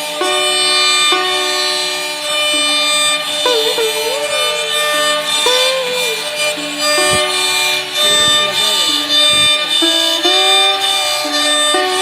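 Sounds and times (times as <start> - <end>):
sliding held-note melody: 0.0 - 12.0.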